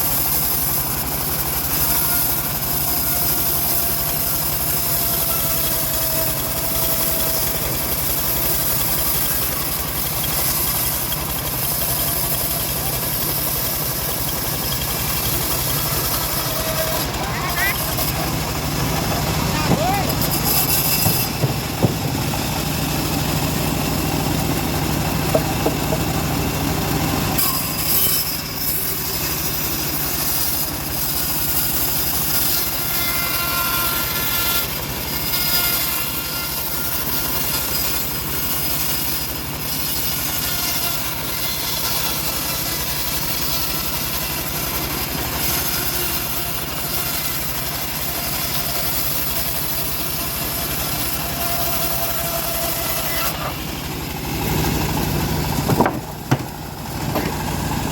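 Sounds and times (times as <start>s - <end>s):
band sawmill sawing log: 0.0s - 57.9s.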